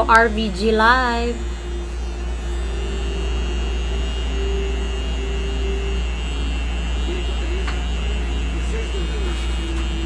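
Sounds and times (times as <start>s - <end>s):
tattoo machine buzzing: 0.0s - 10.0s.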